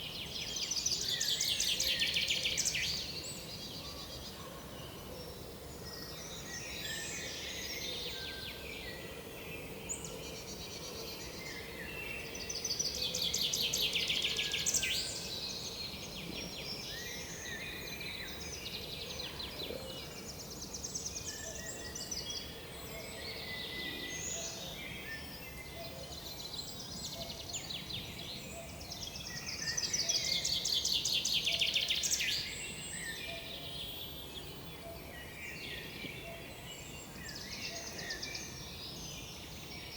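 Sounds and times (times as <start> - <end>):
songbirds calling and singing: 0.0 - 39.9.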